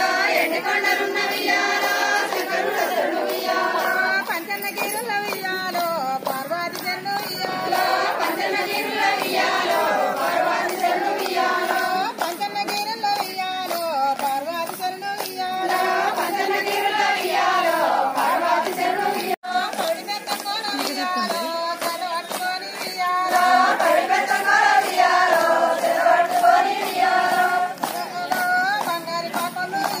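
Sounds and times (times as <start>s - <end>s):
rhythmic hand clapping: 0.0s - 30.0s
women singing folk song: 0.0s - 30.0s.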